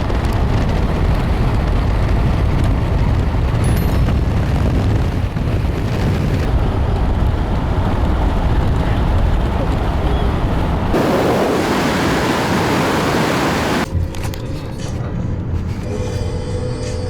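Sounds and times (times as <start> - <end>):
car road rumble: 0.0 - 14.2
wind noise: 0.0 - 14.2.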